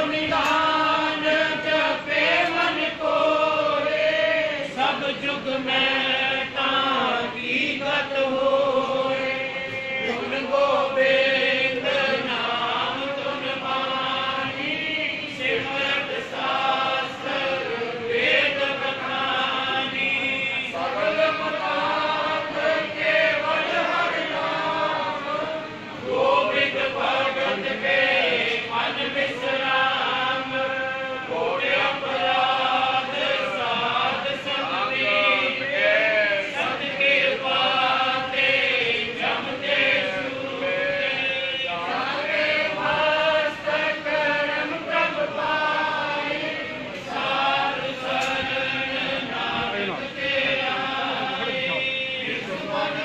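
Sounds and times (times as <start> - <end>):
group chanting: 0.0 - 53.0.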